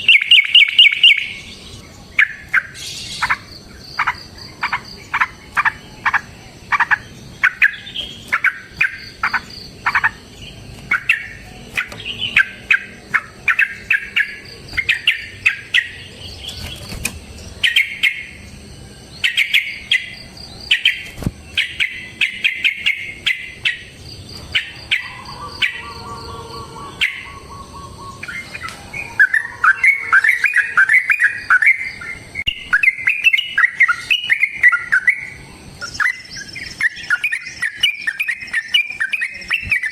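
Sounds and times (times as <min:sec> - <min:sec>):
bird chirping and chattering: 0:00.0 - 0:39.9.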